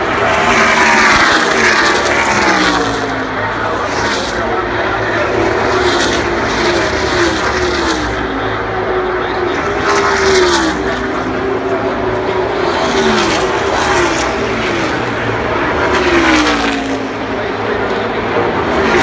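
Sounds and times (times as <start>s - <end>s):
drone of race cars: 0.0s - 19.0s
race car engines passing by: 0.0s - 19.0s.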